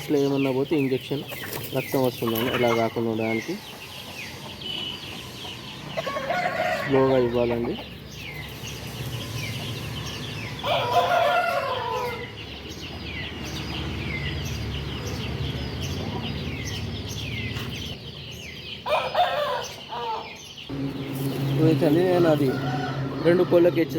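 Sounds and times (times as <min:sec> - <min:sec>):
chicks peeping: 0:00.0 - 0:23.8.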